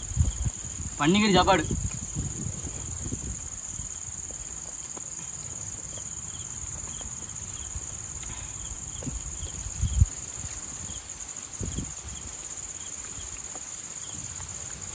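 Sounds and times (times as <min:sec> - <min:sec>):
insect chirring: 0:00.0 - 0:14.9.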